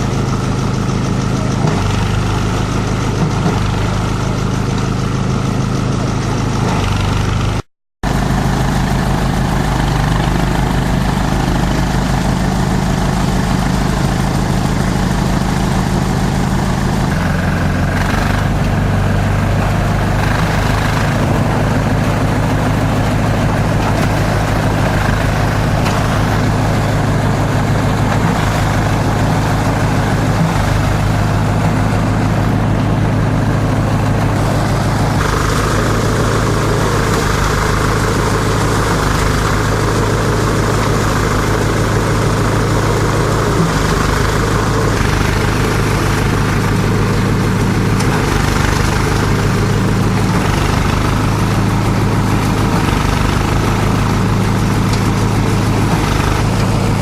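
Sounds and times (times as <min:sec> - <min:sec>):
grinder machine droning: 0:00.0 - 0:57.0.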